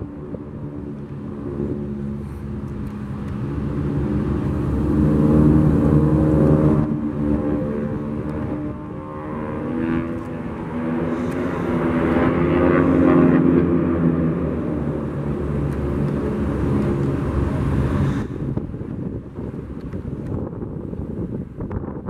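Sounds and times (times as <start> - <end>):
propeller planes droning overhead: 0.0 - 22.0.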